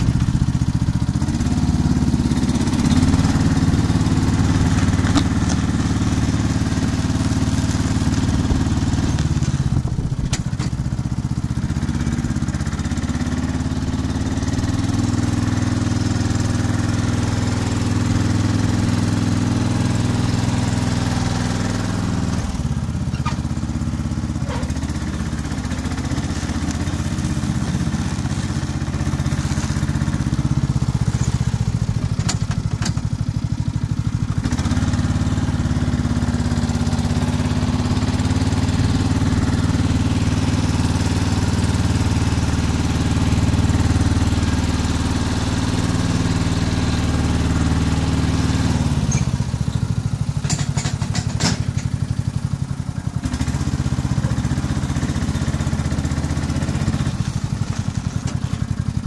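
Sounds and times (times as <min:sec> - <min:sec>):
lawn tractor engine running: 0:00.0 - 0:59.0
plough blade pushing snow: 0:00.0 - 0:59.0.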